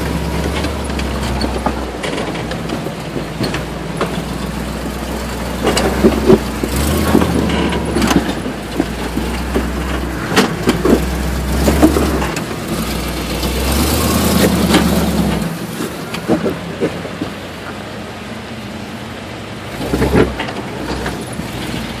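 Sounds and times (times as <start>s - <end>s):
rock crawler engine rumbling: 0.0s - 22.0s.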